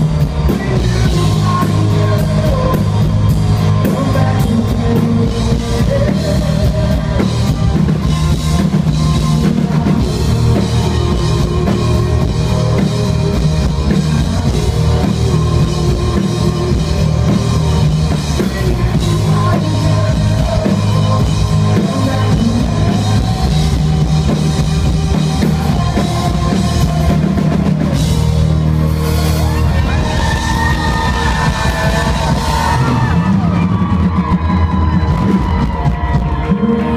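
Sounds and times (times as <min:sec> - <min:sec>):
drum kit: 0:00.0 - 0:36.9
electric guitar: 0:00.0 - 0:36.9.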